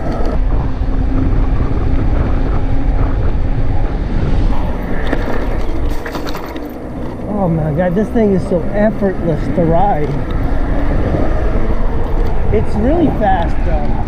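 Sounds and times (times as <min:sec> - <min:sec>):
faint steady hum: 0:00.0 - 0:14.0
wind buffeting microphone: 0:00.0 - 0:14.0.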